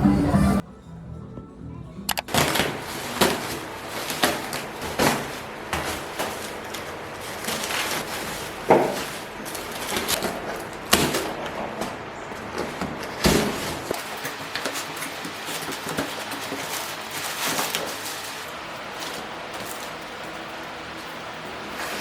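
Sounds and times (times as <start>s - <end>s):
objects knocking and clattering: 2.1s - 22.0s.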